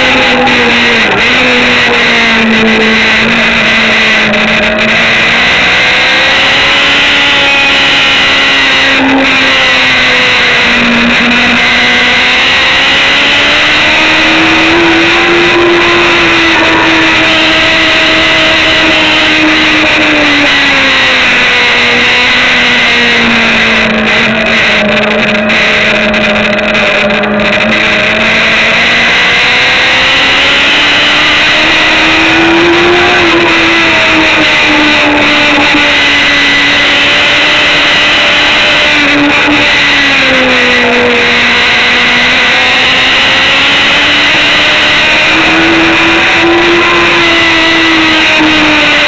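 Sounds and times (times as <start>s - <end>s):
motorcycle engine running hard: 0.0s - 49.0s
rushing noise: 0.0s - 49.0s.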